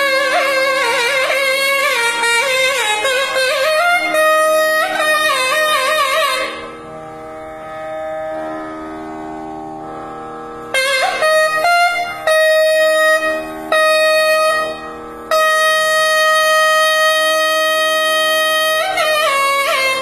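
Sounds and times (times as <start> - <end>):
double-reed pipe melody: 0.0 - 20.0.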